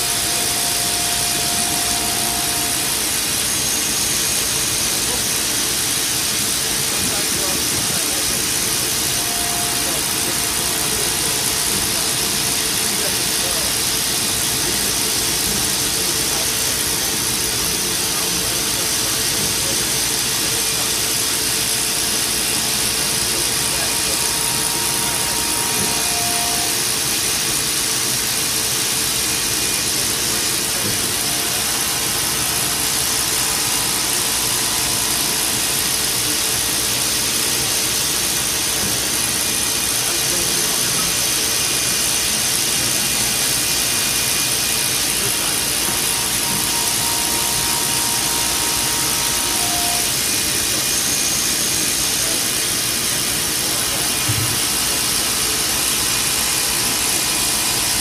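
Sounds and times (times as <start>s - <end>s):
milling machine cutting: 0.0s - 58.0s.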